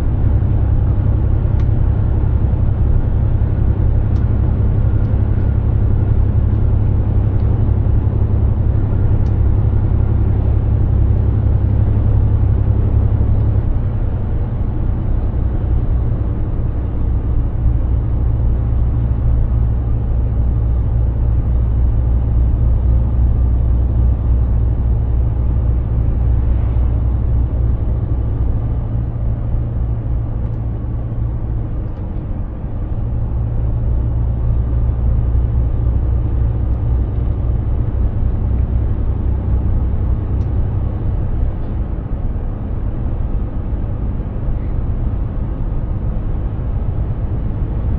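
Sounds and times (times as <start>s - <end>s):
truck diesel engine drone: 0.0s - 47.9s.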